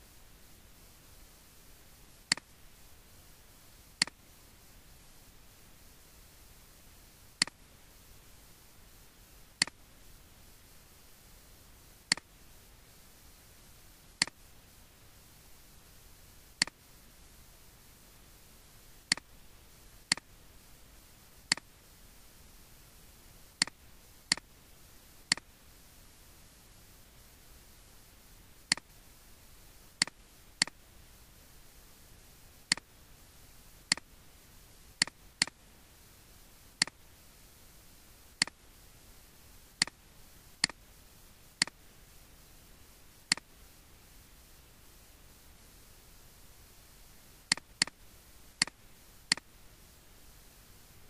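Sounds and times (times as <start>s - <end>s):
faint steady hiss: 0.0s - 51.0s.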